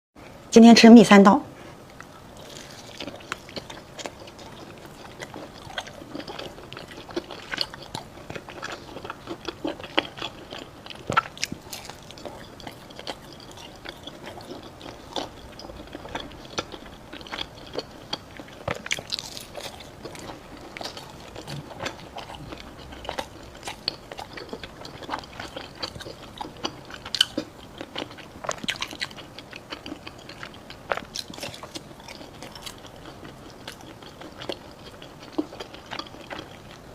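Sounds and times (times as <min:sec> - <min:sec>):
crunchy pastry chewing: 0:01.9 - 0:36.9.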